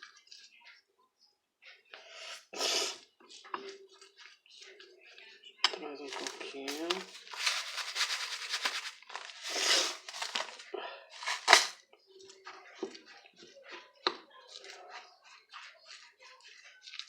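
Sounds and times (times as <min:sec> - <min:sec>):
spoon scraping flour in a bowl: 0:01.7 - 0:17.0.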